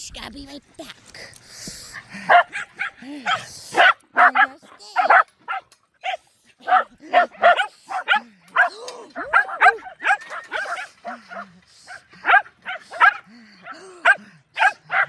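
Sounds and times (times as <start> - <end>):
dog barking and yipping: 2.1 - 15.0.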